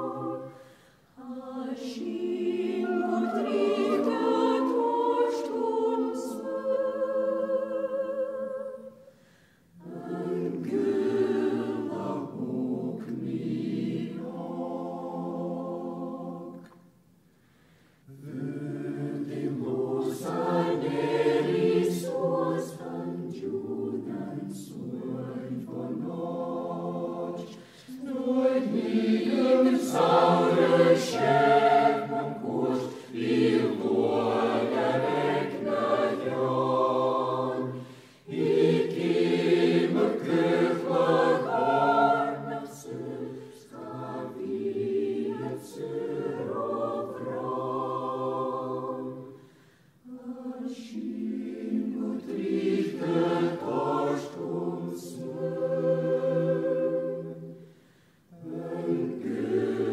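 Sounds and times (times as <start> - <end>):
choir singing: 0.0 - 17.0, 18.0 - 59.9.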